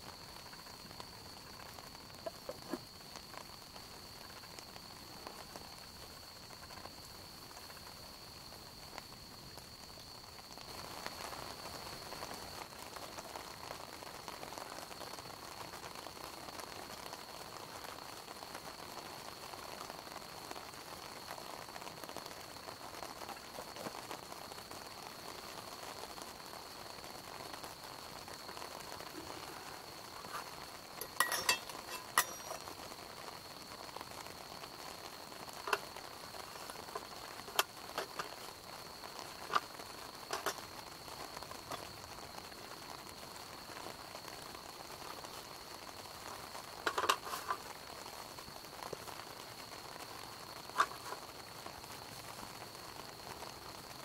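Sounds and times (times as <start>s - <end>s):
campfire sizzling and crackling: 0.0s - 54.0s.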